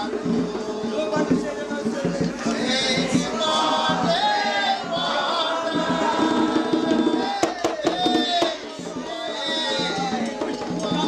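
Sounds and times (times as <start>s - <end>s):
call-and-response chanting: 0.0s - 11.0s
drums: 0.0s - 11.0s.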